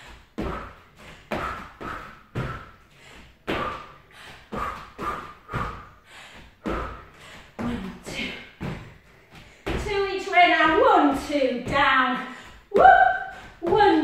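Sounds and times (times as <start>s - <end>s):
feet landing on wooden floor: 0.3s - 5.9s, 6.5s - 14.0s.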